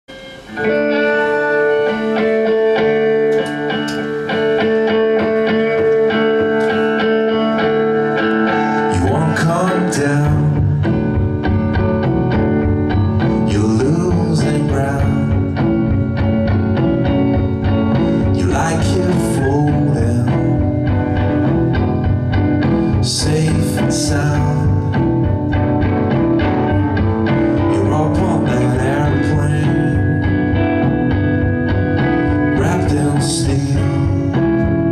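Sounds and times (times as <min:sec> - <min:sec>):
drums: 0:00.1 - 0:34.9
electric guitar chords: 0:00.1 - 0:34.9
keyboard chords: 0:00.1 - 0:34.9.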